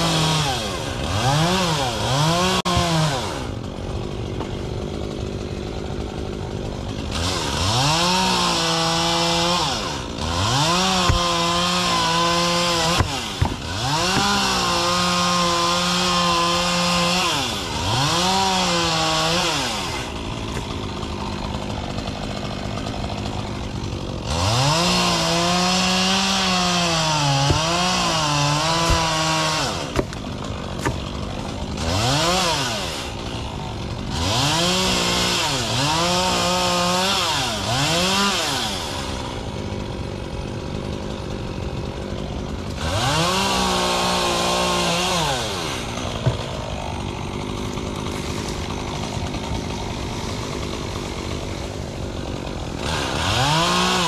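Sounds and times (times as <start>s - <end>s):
chainsaw revving and idling: 0.0s - 54.0s.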